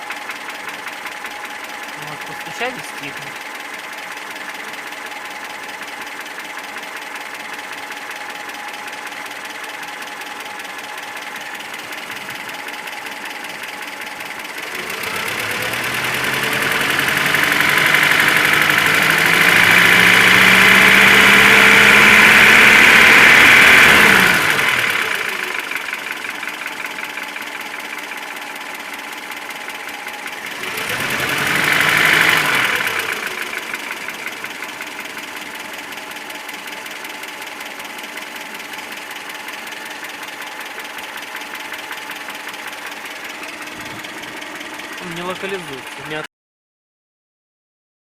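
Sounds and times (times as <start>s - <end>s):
car engine idling and revving: 0.0s - 46.3s
engine knocking: 0.0s - 46.3s.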